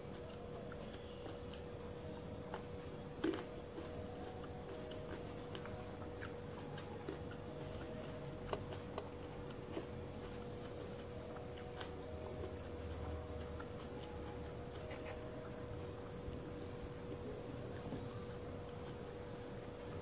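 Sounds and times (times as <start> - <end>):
faint steady hum: 0.0 - 20.0
chewing mouth sounds: 0.1 - 20.0.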